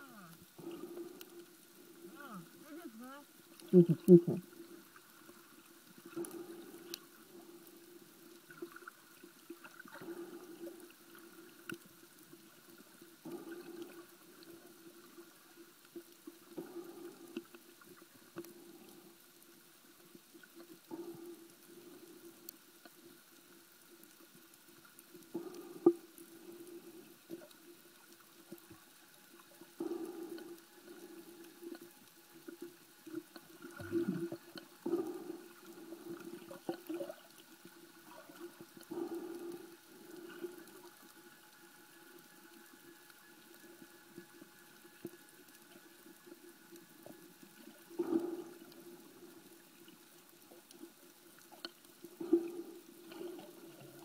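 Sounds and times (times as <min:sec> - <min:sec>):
low underwater hum: 0:00.0 - 0:54.0.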